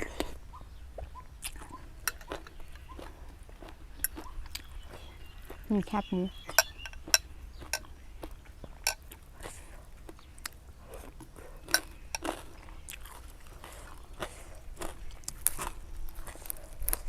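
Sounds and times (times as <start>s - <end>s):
chewing crispy pork rinds: 0.0s - 17.0s.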